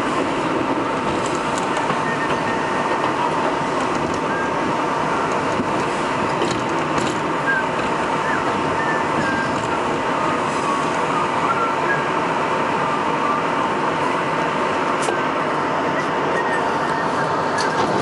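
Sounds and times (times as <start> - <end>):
train high whine: 0.0 - 18.0
train wheel and rail noise: 0.0 - 18.0.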